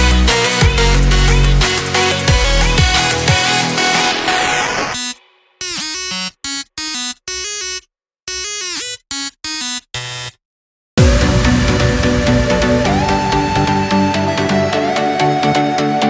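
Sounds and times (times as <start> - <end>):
electronic background music: 0.0 - 10.3, 11.0 - 16.0.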